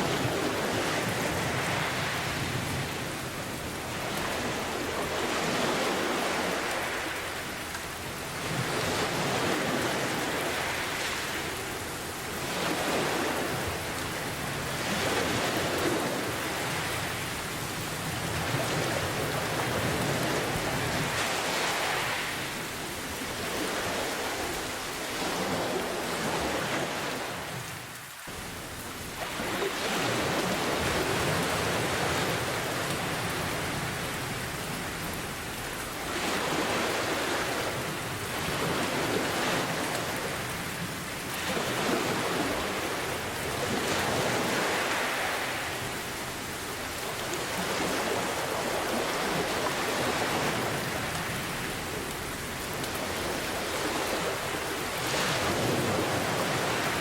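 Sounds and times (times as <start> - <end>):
ocean surf waves: 0.0 - 57.0
steady rain: 0.0 - 57.0.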